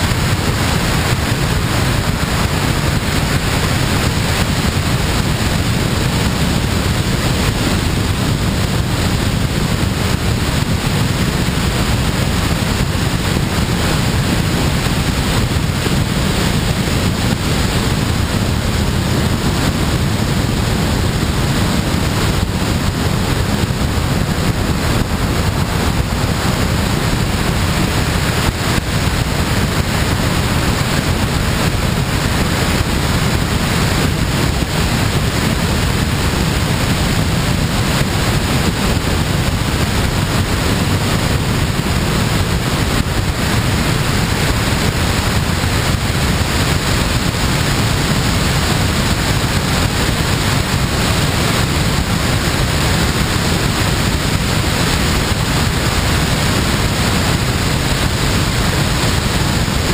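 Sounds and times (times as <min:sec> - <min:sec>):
wind buffeting camera: 0:00.0 - 0:59.9.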